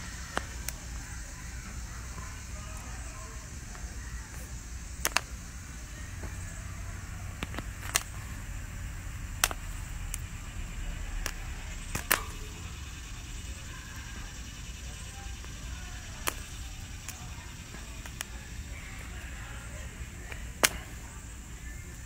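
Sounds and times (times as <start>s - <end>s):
popcorn popping: 0.0s - 22.0s
steady low rumble: 0.0s - 22.0s.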